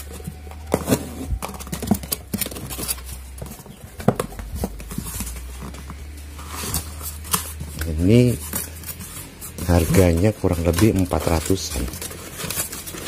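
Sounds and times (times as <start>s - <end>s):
knocks and rubbing of packaging: 0.0s - 13.0s.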